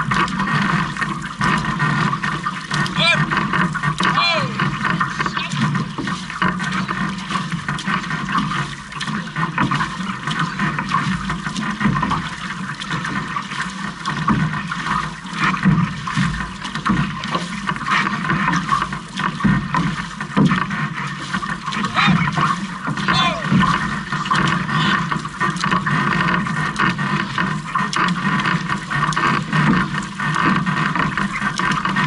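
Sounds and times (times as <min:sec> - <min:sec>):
paddle strokes splashing: 0:00.0 - 0:32.0
water rushing along a hull: 0:00.0 - 0:32.0.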